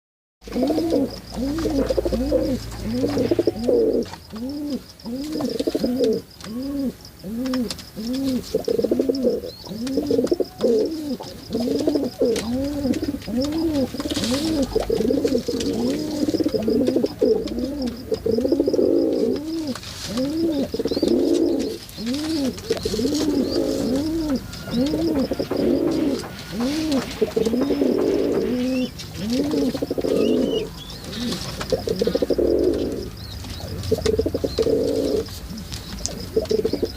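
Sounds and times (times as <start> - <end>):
pigeons cooing: 0.4 - 36.9.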